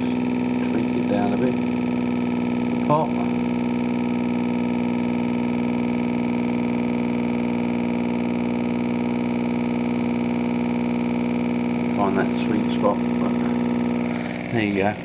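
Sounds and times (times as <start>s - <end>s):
pulse motor humming: 0.0s - 15.0s.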